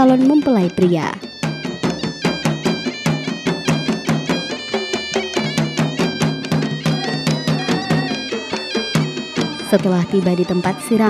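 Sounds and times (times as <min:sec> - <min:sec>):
fast even drumming: 0:00.0 - 0:11.0
melodic line of stepping notes: 0:00.0 - 0:11.0.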